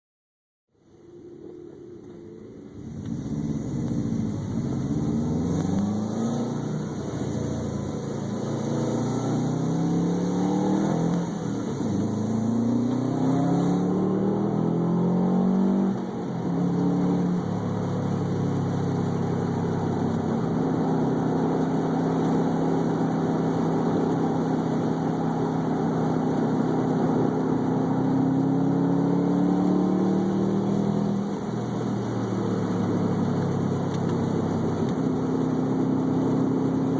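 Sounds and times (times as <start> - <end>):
car engine accelerating: 1.6 - 36.9.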